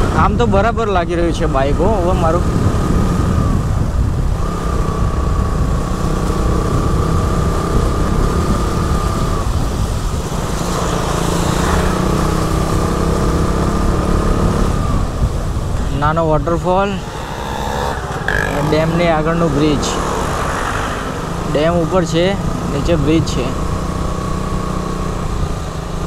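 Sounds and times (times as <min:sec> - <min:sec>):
motorcycle engine running: 0:00.0 - 0:26.0
wind noise: 0:00.0 - 0:26.0
tyres on wet road: 0:00.9 - 0:26.0.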